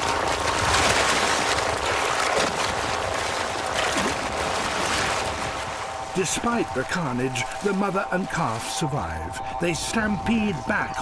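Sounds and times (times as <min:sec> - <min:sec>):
animals stampeding through water: 0:00.0 - 0:11.0
river water splashing and churning: 0:00.0 - 0:11.0.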